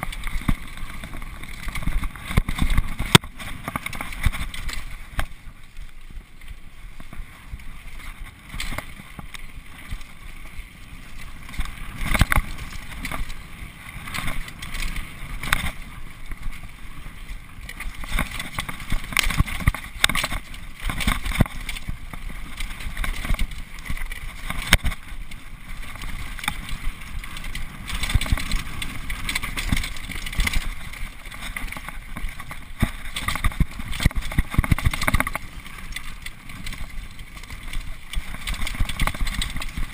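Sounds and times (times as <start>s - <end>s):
bike knocking and clattering: 0.0s - 39.9s
tyre and trail noise: 0.0s - 39.9s.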